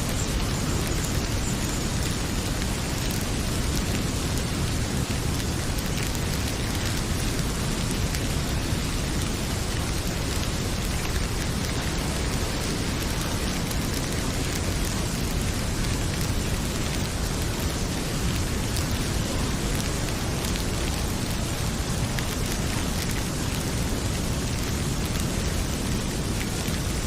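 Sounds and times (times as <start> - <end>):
faint wood fire crackle: 0.0 - 27.0
heavy rain pouring: 0.0 - 27.0.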